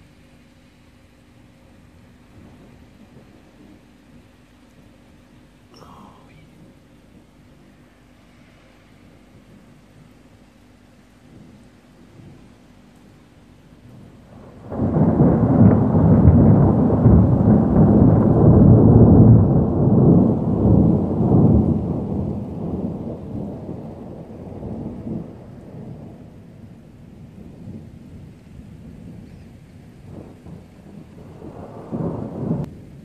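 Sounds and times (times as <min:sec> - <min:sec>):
thunder clap and rumble: 0:01.6 - 0:33.0.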